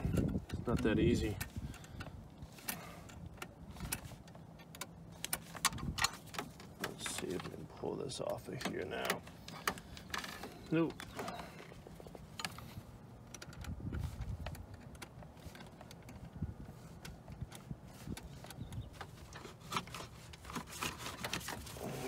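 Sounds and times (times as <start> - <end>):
low rumble of handling: 0.0 - 22.0.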